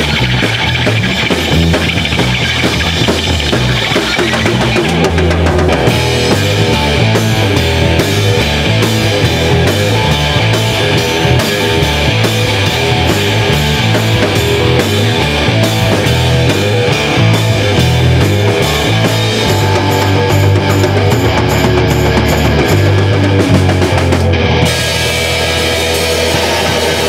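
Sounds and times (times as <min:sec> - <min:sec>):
drum beat: 0:00.0 - 0:27.0
electric bass line: 0:00.0 - 0:27.0
electric guitar: 0:00.0 - 0:27.0.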